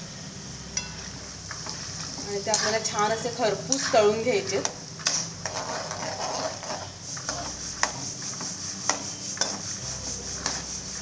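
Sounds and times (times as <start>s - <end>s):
peanuts sizzling in hot oil: 0.0s - 11.0s.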